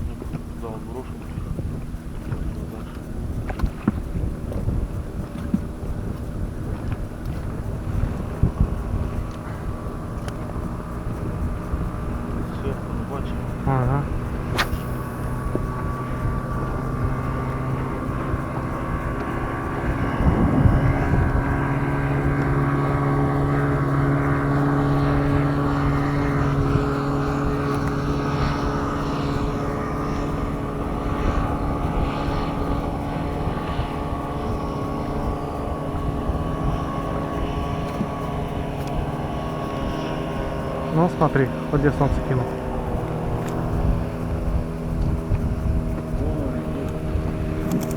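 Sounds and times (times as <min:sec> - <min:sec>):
motor droning: 0:00.0 - 0:47.9.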